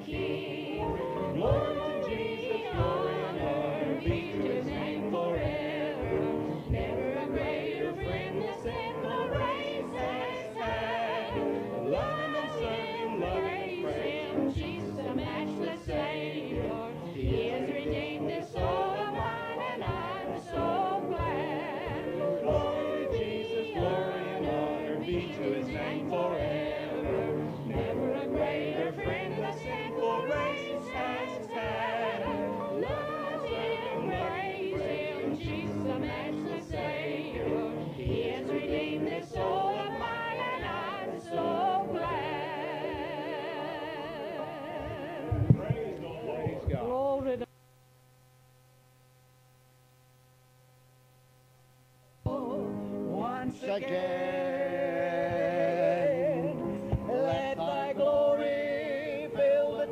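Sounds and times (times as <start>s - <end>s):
congregation singing a hymn: 0.0s - 47.4s, 52.3s - 59.9s.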